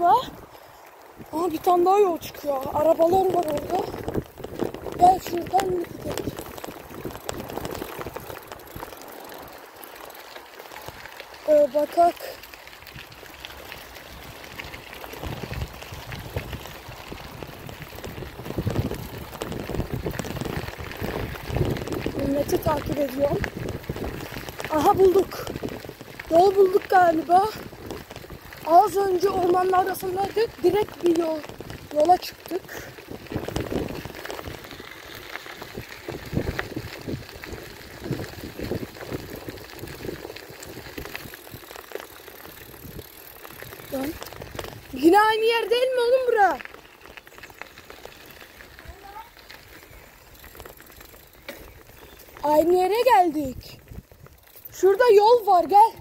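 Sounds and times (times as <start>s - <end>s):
bicycle tyres crunching gravel: 0.0s - 56.0s
bike rattling: 0.0s - 56.0s.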